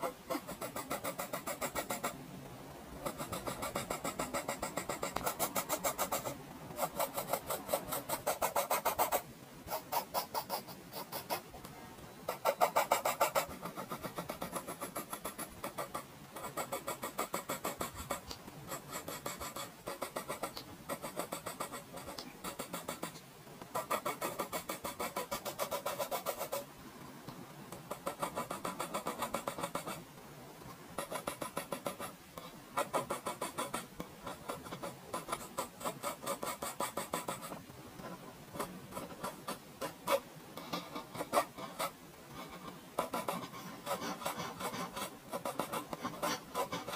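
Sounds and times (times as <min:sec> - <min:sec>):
pencil scratching on paper: 0:00.0 - 0:02.2, 0:03.0 - 0:11.5, 0:12.3 - 0:26.7, 0:27.7 - 0:30.0, 0:31.0 - 0:46.9.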